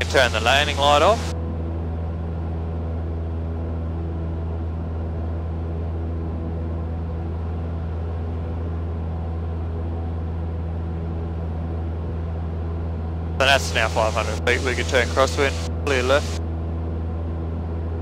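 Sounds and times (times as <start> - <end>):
propeller plane engine droning: 0.0 - 18.0.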